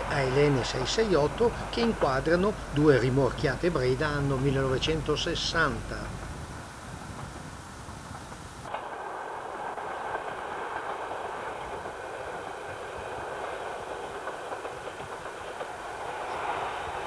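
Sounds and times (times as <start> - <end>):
distant diesel train rumble: 0.0 - 17.0.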